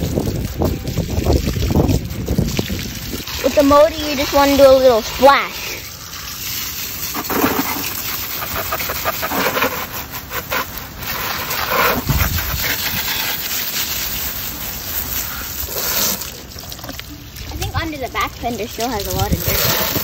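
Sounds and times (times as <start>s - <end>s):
hose spray splashing: 0.0s - 20.0s.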